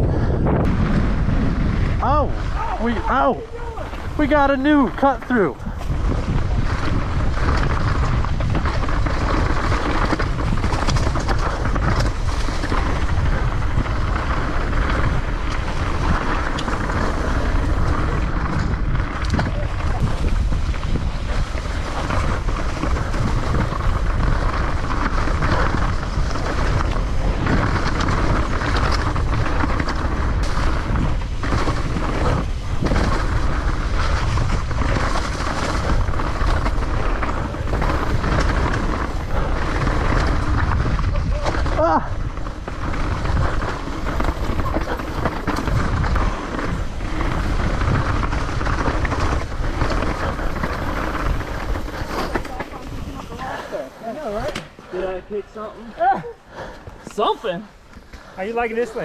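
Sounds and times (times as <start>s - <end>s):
bike rattling and knocking: 0.0s - 59.0s
bike tyres rolling on dirt: 0.0s - 59.0s
wind rushing over microphone: 0.0s - 59.0s.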